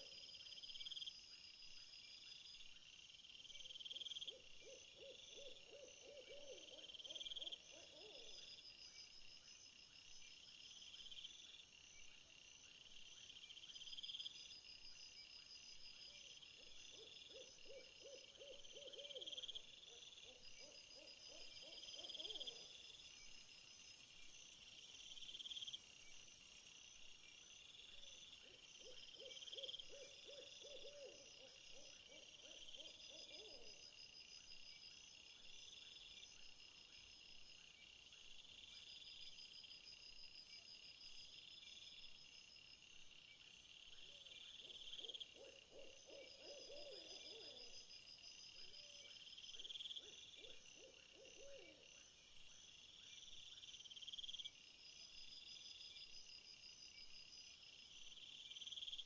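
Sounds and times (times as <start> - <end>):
rhythmic insect chirping: 0.0 - 59.0.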